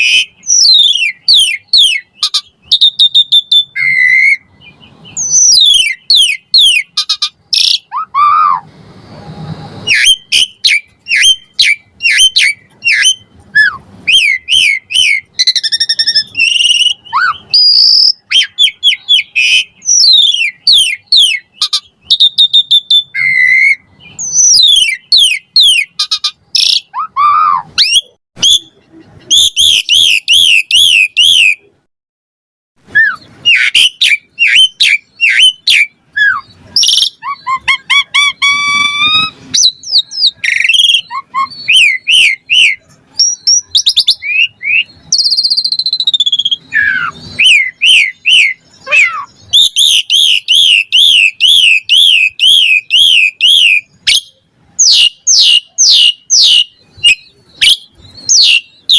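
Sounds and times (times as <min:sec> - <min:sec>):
starling singing: 0:00.0 - 0:08.7, 0:09.8 - 0:31.8, 0:32.8 - 0:58.9.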